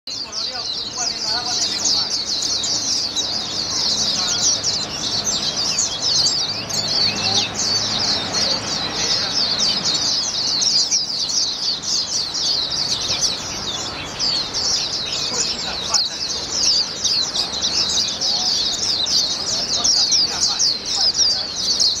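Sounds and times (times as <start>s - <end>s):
small birds twittering: 0.1s - 22.0s.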